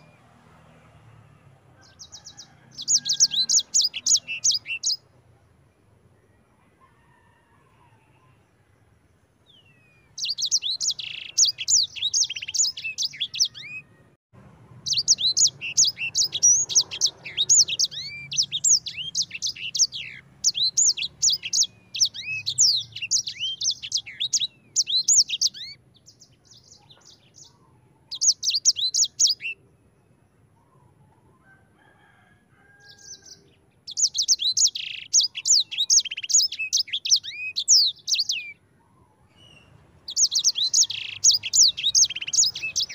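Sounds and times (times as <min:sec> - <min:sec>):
songbird singing chirps and trills: 0:00.0 - 0:42.9.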